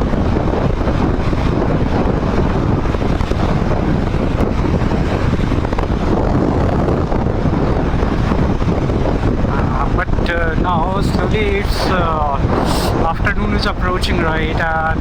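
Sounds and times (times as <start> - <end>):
motorcycle riding noise: 0.0 - 15.0
wind rushing over microphone: 0.0 - 15.0.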